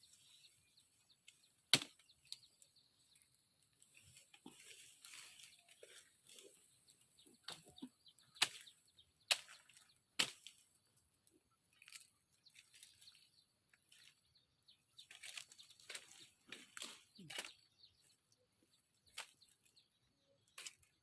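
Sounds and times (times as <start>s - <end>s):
leaves and brush rustling: 0.0s - 19.9s.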